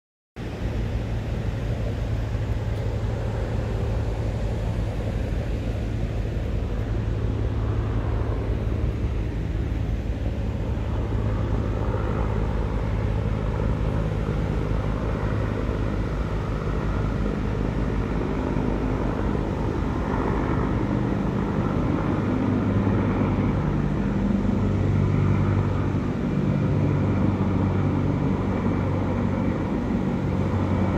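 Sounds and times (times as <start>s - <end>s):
helicopter rotor thrum: 0.4s - 30.9s.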